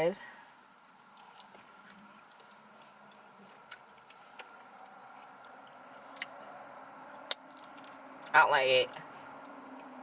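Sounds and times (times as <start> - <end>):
quiet chewing: 0.8 - 8.4, 9.0 - 10.0.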